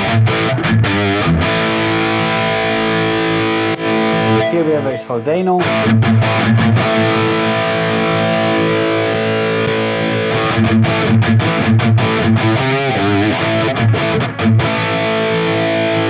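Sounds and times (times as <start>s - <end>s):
distorted electric guitar riff: 0.0s - 16.0s.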